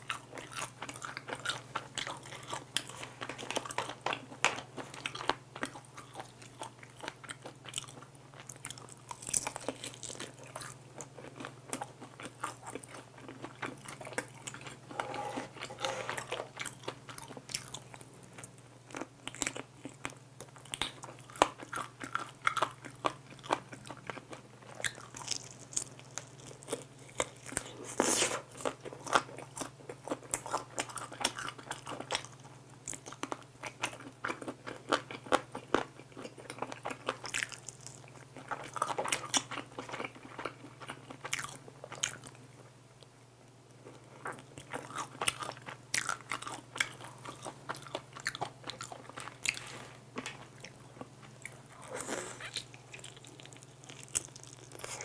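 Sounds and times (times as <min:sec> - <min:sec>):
crunching fried chicken: 0:00.0 - 0:42.4, 0:43.8 - 0:55.0.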